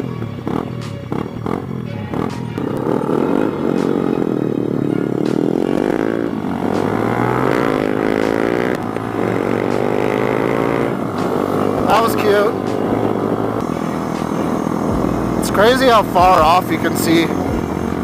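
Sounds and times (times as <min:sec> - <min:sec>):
small motorcycle engine revving: 0:00.0 - 0:18.0.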